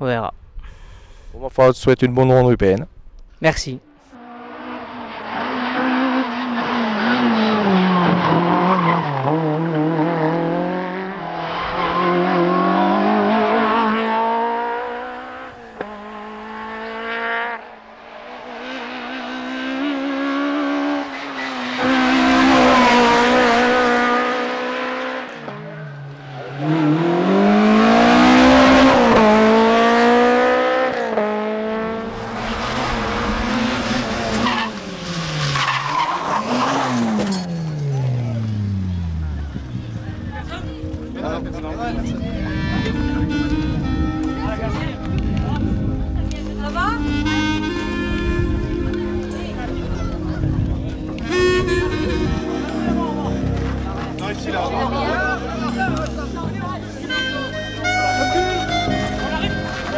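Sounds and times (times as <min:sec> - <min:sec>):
rally car engine at full throttle: 0:04.2 - 0:59.9.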